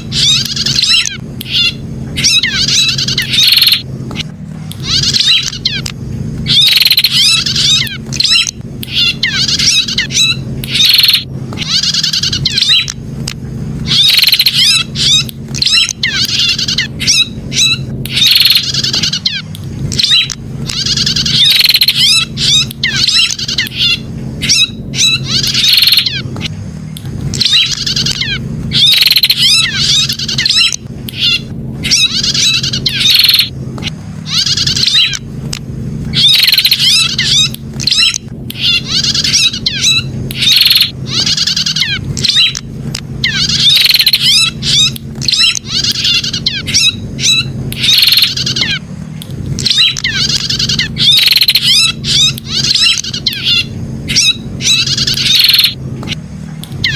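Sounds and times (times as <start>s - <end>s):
bird chattering song: 0.0s - 35.3s, 36.1s - 48.9s, 49.5s - 56.9s
steady low hum: 0.0s - 56.9s.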